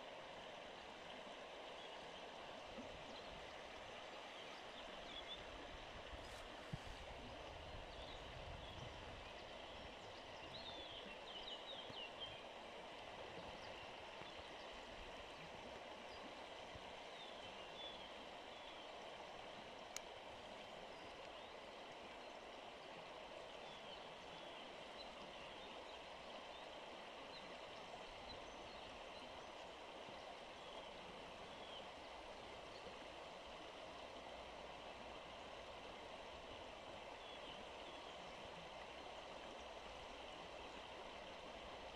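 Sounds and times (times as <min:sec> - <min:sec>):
river water flowing over stones: 0:00.0 - 0:41.9.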